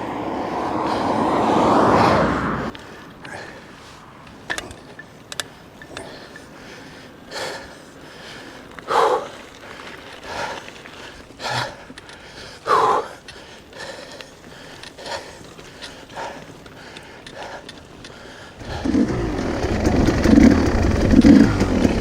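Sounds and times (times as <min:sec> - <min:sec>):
person breathing hard: 0:00.1 - 0:04.1, 0:05.5 - 0:22.0
bike clicks and knocks: 0:02.7 - 0:12.5, 0:13.1 - 0:22.0.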